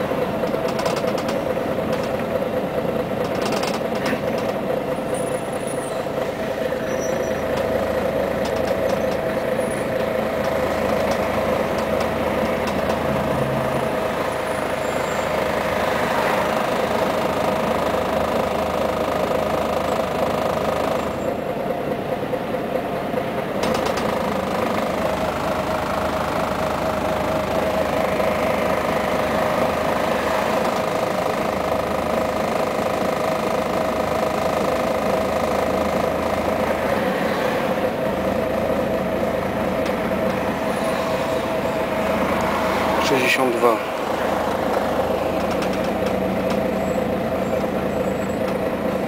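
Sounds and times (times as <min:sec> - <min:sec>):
bus diesel engine whine: 0:00.0 - 0:49.0
road and tyre noise: 0:00.0 - 0:49.0.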